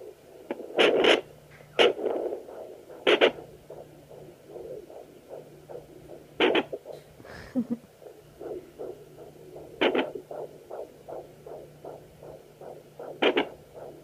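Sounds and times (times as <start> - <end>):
low steady hum: 0.0 - 14.0
whooshing fetal heartbeat: 0.0 - 14.0.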